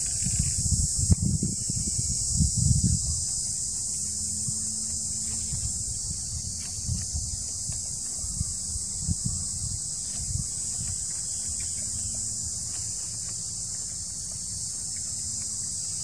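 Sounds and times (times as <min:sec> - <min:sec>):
insects buzzing: 0:00.0 - 0:16.0
low thumps and rustles: 0:00.0 - 0:16.0
faint ticks: 0:03.2 - 0:16.0.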